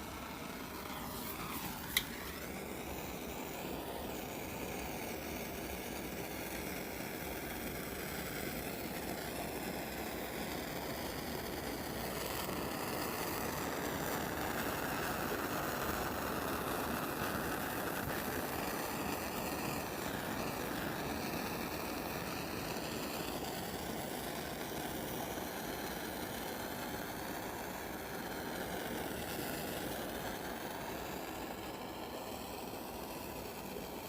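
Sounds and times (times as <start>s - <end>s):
torch flame hissing: 0.0s - 34.0s.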